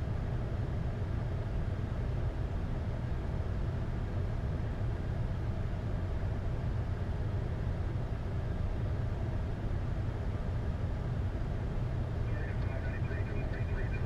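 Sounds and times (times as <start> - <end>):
cockpit rumble and hiss: 0.0 - 14.0.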